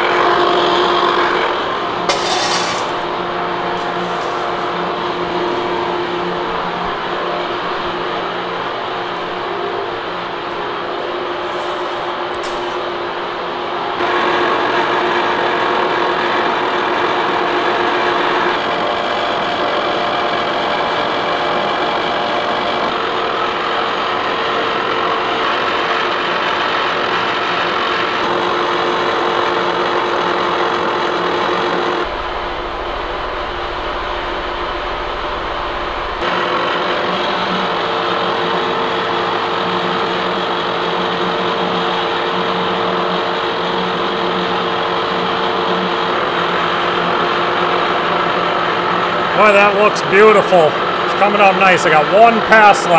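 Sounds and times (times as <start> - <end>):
metal cutting noise: 0.0 - 14.6, 18.2 - 52.9
machine whine: 0.0 - 52.9.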